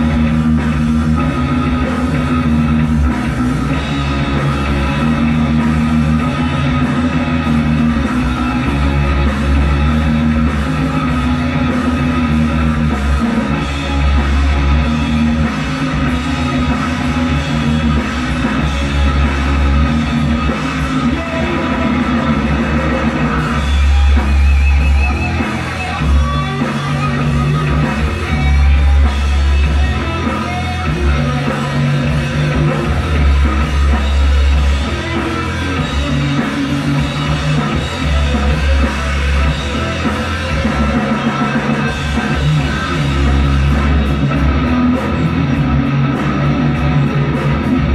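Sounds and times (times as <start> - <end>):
rock band through tv speakers: 0.0 - 47.9.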